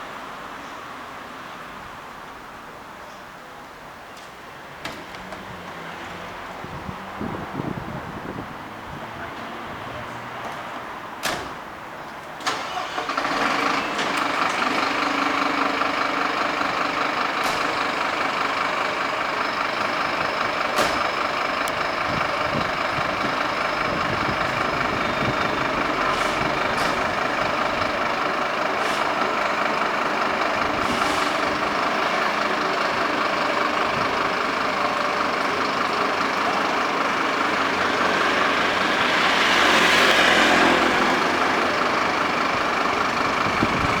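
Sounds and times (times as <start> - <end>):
diesel engine starting and idling: 5.0 - 44.0.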